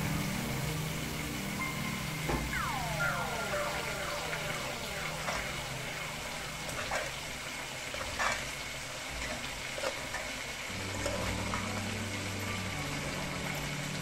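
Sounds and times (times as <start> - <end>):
rice sizzling in a pan: 0.0 - 14.0.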